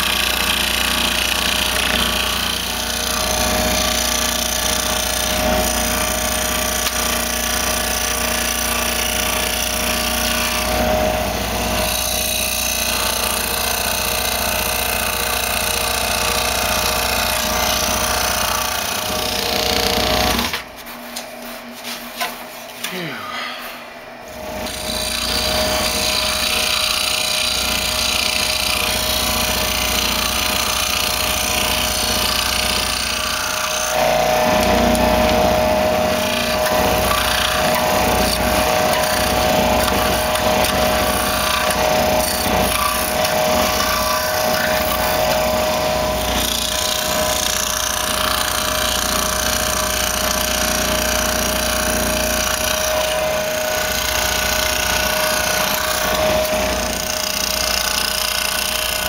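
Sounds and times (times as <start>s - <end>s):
scroll saw cutting wood: 0.0s - 59.0s.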